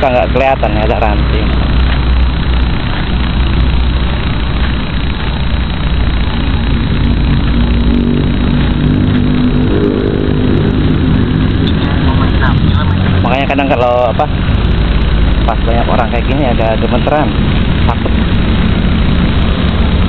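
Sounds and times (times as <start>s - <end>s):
quadcopter motors whirring: 0.0s - 20.0s
steady motor humming tone: 0.0s - 20.0s.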